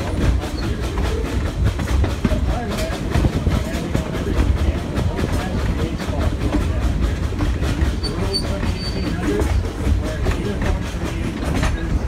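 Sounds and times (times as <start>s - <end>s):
train rumbling on track: 0.0s - 12.0s
wheels clacking over rails: 0.0s - 12.0s.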